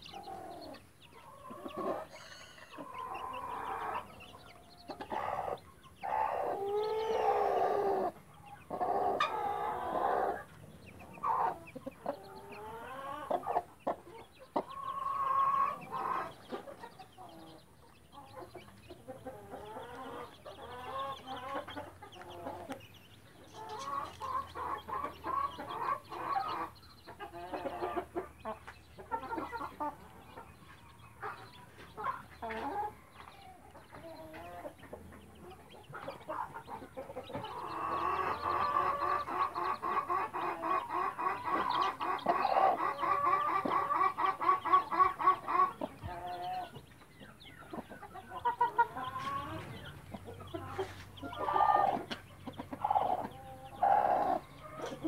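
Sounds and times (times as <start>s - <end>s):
hens clucking: 0.0s - 55.0s.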